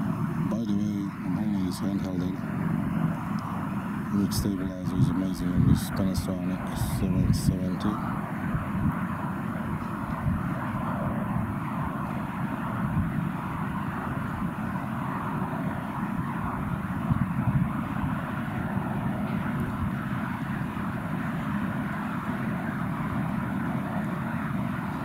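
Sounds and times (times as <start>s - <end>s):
outdoor hiss and roar: 0.0s - 25.0s.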